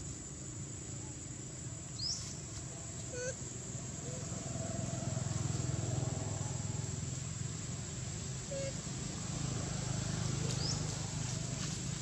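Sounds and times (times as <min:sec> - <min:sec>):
vehicle engine rumbling: 0:01.9 - 0:12.0.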